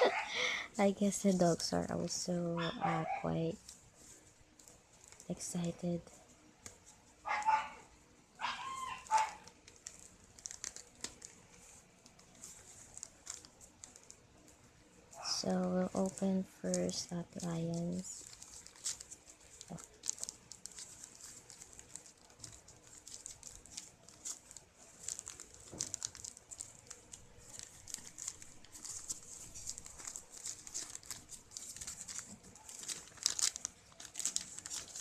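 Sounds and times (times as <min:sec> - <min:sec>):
gift packaging crinkling and rustling: 0:00.0 - 0:02.4, 0:03.4 - 0:35.0.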